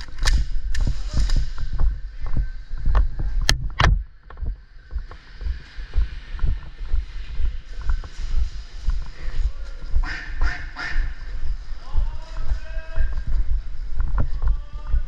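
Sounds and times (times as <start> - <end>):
low rumble of movement: 0.0 - 15.0
wind on microphone: 0.1 - 15.0.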